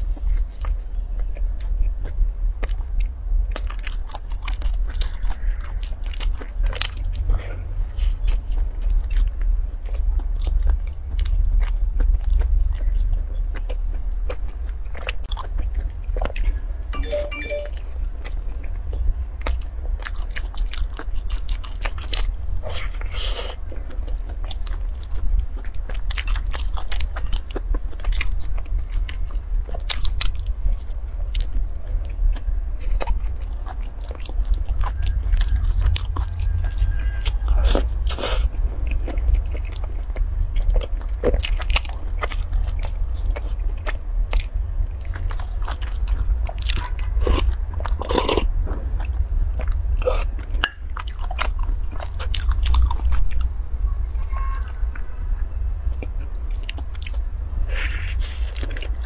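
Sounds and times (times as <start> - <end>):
biting and chewing bread: 0.0 - 59.0.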